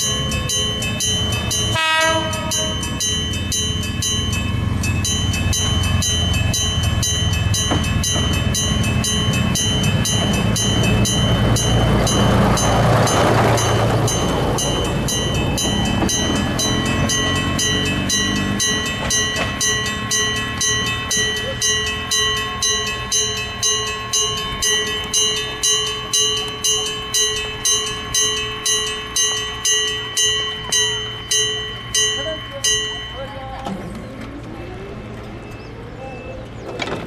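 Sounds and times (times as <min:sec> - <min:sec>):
level crossing warning bell: 0:00.0 - 0:37.0
railcar rumbling on rails: 0:00.0 - 0:37.0.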